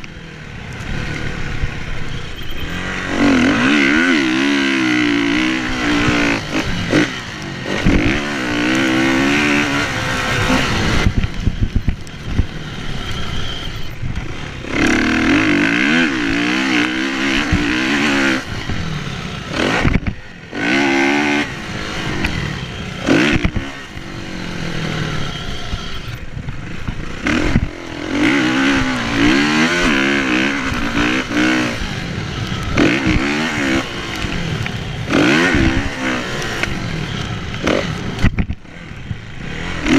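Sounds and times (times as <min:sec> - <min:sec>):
knocks and rattles of bike: 0:00.0 - 0:39.9
motocross engine revving: 0:00.2 - 0:39.9.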